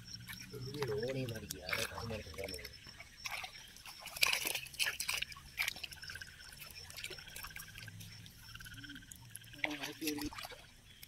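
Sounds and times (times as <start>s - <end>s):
frogs calling in chorus: 0.0s - 11.0s
night insects chirring: 0.0s - 11.0s
water splashes: 0.0s - 11.0s.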